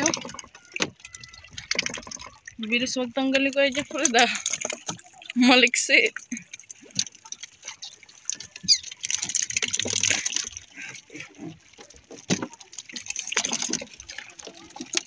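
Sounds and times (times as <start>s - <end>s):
water sloshing around boat: 0.0s - 15.0s.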